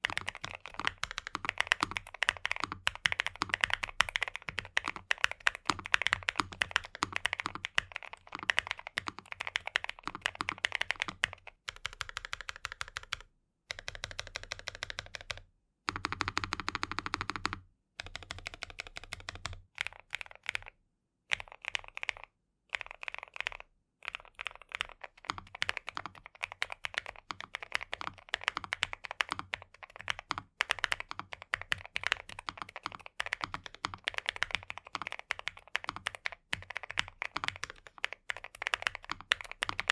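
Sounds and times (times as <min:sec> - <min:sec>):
crisp mechanical keyboard clacks: 0:00.0 - 0:20.7, 0:21.3 - 0:39.9.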